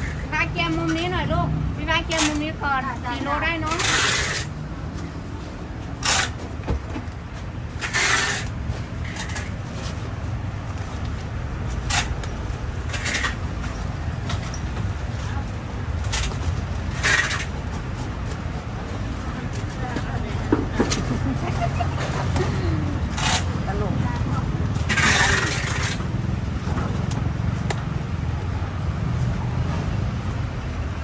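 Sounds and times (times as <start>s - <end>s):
traffic and market hum: 0.0s - 31.0s.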